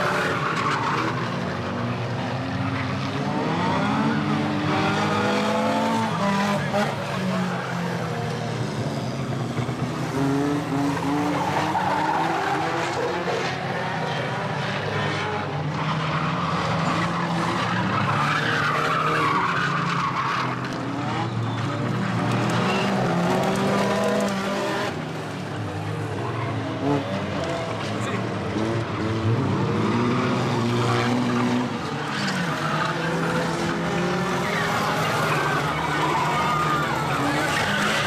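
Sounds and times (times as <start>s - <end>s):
racing car engines revving: 0.0s - 38.0s.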